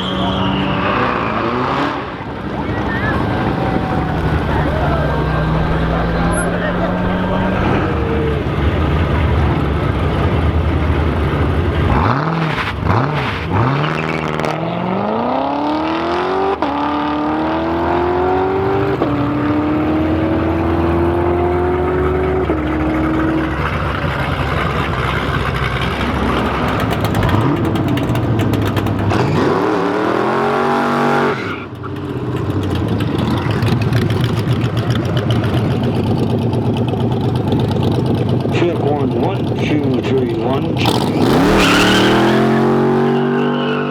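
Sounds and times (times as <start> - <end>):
racing car engines accelerating: 0.0 - 43.9.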